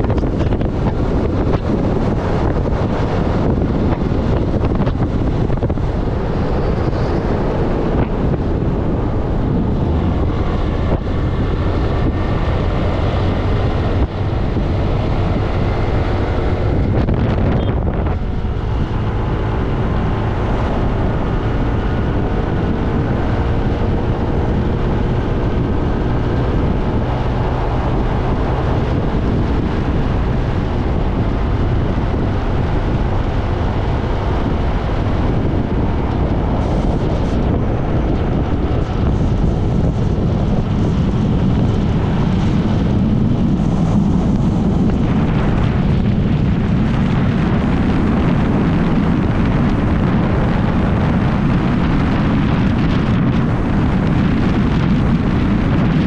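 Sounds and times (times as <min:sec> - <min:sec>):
car engine and road noise: 0:00.0 - 0:56.0
wind buffeting microphone: 0:00.0 - 0:56.0.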